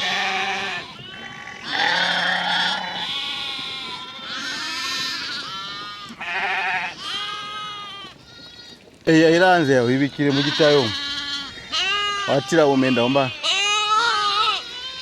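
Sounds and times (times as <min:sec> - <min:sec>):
sheep bleating: 0:00.0 - 0:08.8, 0:10.1 - 0:15.0.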